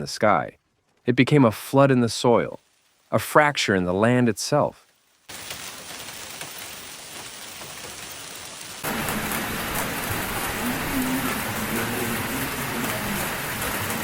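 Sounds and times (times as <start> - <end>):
heavy rain on hard surfaces: 0.7 - 14.0.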